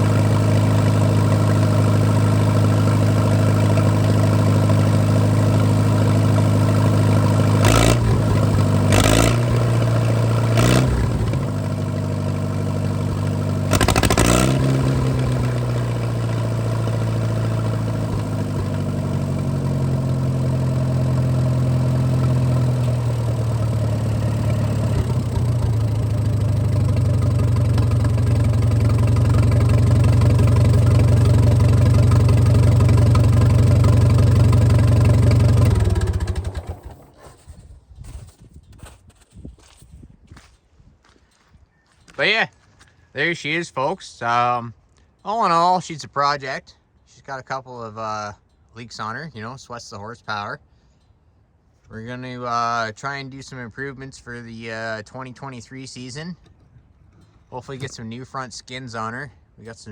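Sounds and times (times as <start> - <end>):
tractor engine idling: 0.0 - 38.3, 41.0 - 59.9.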